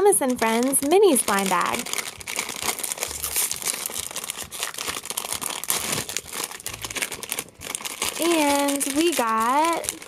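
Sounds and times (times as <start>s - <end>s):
plastic bag crinkling and tearing: 0.0s - 10.0s.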